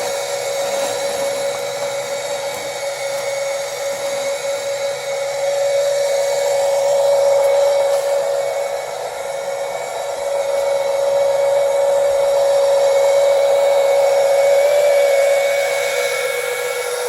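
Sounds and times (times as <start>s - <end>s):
pump motor whining: 0.0s - 17.0s.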